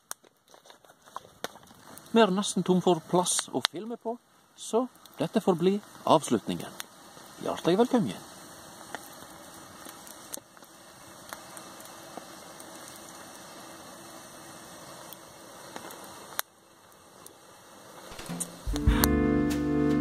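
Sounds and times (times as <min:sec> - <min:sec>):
fire pops: 0:00.0 - 0:04.0, 0:05.0 - 0:19.6
wood fire crackling and hissing: 0:00.0 - 0:20.0.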